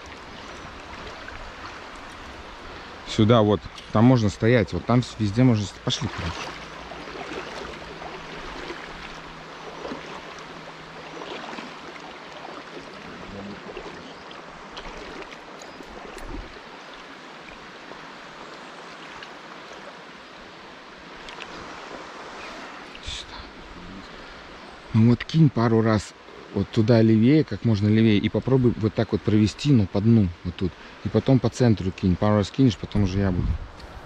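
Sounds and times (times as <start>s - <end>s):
river water rushing: 0.0s - 27.2s, 27.8s - 31.8s.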